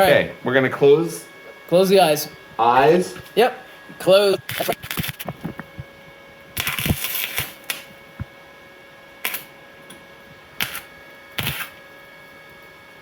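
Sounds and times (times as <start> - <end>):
welder arc crackling: 0.0 - 8.4, 9.0 - 13.0.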